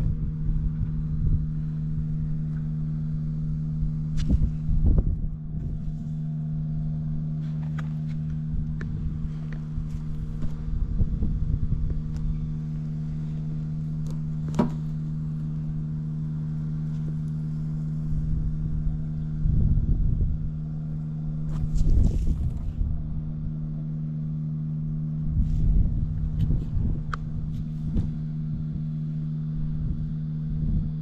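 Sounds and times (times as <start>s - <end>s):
low rumbling swells: 0.0s - 31.0s
motorcycle engine idling: 0.0s - 31.0s.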